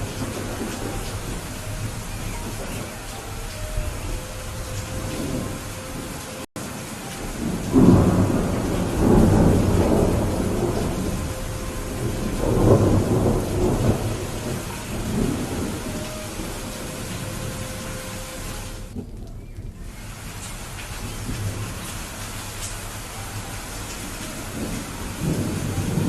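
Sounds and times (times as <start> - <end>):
rolling thunder: 0.0 - 26.0
steady rain: 0.0 - 26.0.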